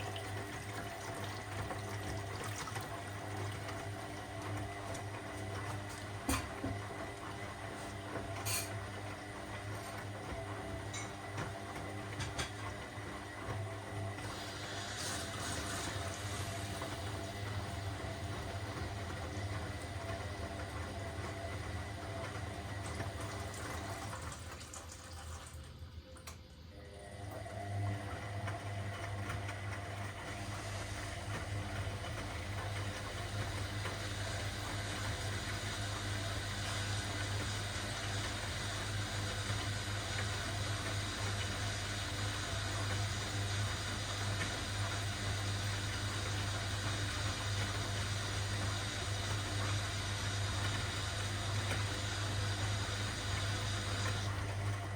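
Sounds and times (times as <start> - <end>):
washing machine motor hum: 0.0 - 54.9.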